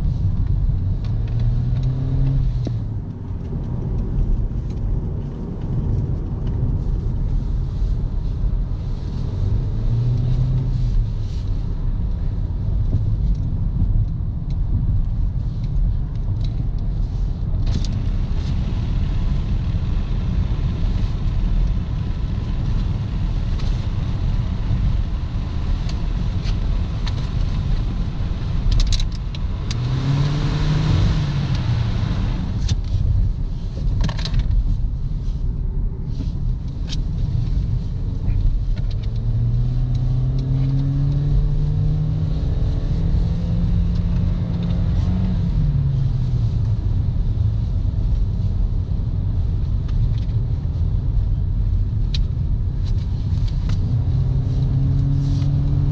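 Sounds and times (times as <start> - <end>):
car engine running: 0.0 - 55.9
road rumble: 0.0 - 55.9.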